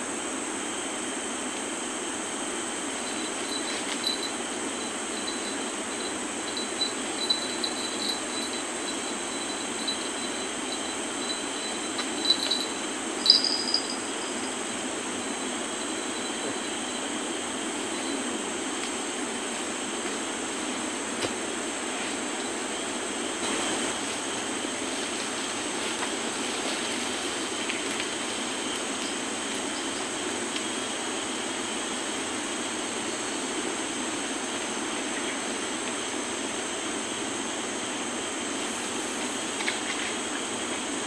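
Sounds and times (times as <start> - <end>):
insect drone: 0.0 - 41.0
low steady hiss: 0.0 - 41.0.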